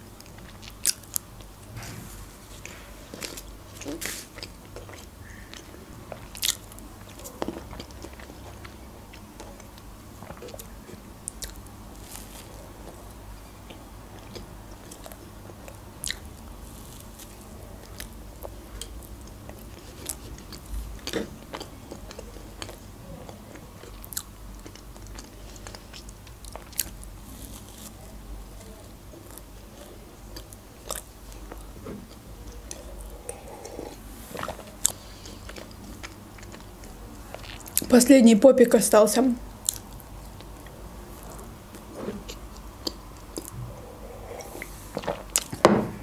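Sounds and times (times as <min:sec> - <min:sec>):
chewing soft pastry: 0:00.0 - 0:01.8, 0:02.4 - 0:38.2, 0:39.4 - 0:45.6.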